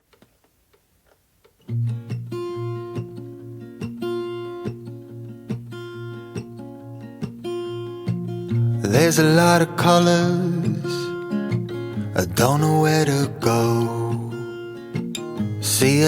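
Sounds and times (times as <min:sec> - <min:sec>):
acoustic guitar strumming: 0:01.6 - 0:16.0.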